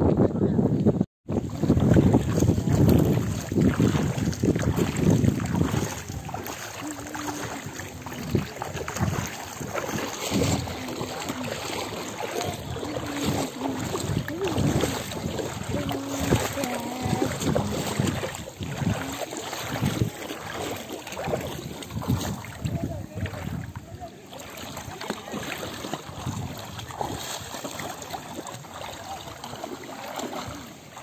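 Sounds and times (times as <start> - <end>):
wind buffeting microphone: 0.0 - 30.5
floodwater rushing: 1.3 - 31.0
faint distant voices: 2.6 - 31.0.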